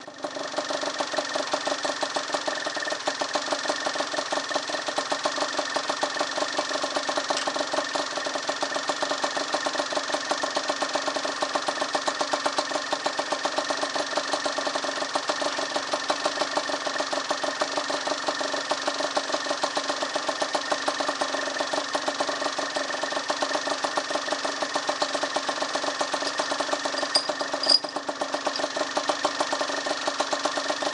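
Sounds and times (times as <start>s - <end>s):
two-stroke engine idling: 0.0s - 30.9s.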